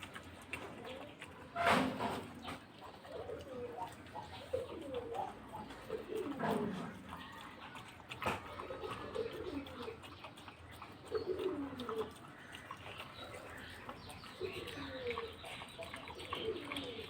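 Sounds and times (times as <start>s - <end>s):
low bird coos: 0.0s - 17.0s.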